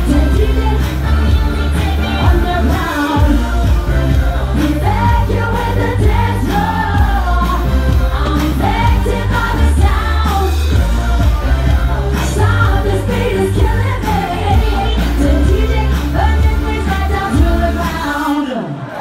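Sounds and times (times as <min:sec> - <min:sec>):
electronic beat with heavy bass: 0:00.0 - 0:18.5
female lead vocal: 0:00.0 - 0:19.0.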